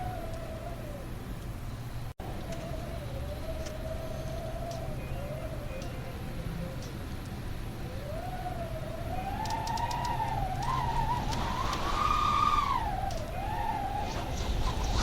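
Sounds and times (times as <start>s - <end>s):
wind howling: 0.0s - 15.0s.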